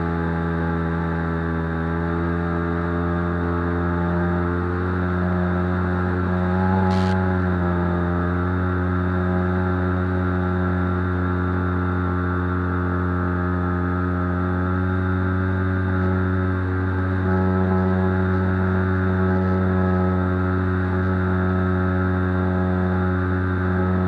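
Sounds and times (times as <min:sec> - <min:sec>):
propeller motor droning: 0:00.0 - 0:24.0.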